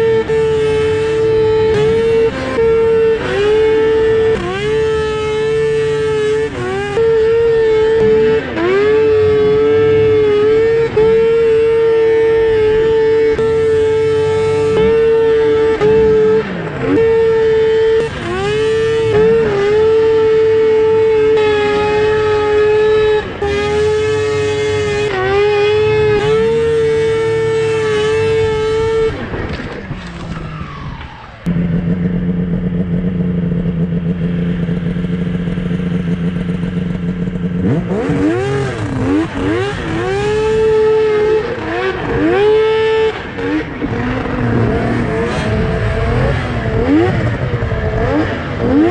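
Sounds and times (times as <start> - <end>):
snowmobile engine screaming: 0.0 - 32.7, 36.4 - 48.9.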